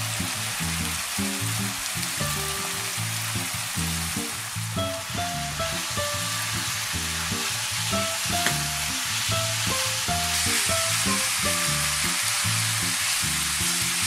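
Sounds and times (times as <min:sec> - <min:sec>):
food sizzling in frying pan: 0:00.0 - 0:14.0
soft background music: 0:02.2 - 0:14.0.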